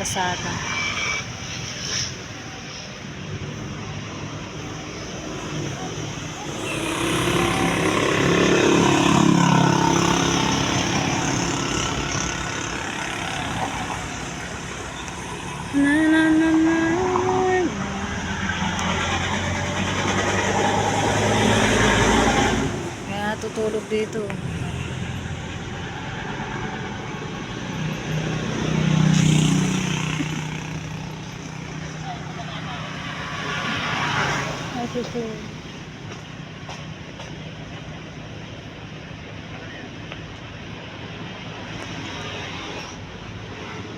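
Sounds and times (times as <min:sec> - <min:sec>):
truck driving past: 0:00.0 - 0:38.8.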